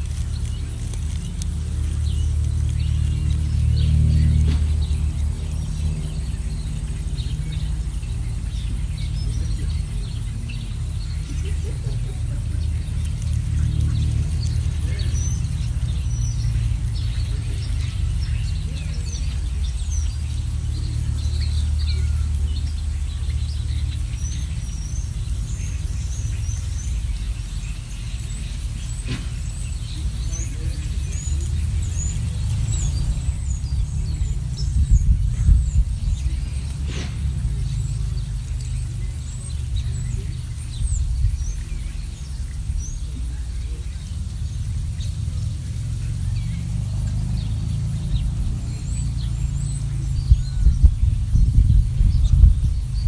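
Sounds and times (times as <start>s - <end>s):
low rumble: 0.0s - 53.0s
songbirds chirping: 0.0s - 53.0s.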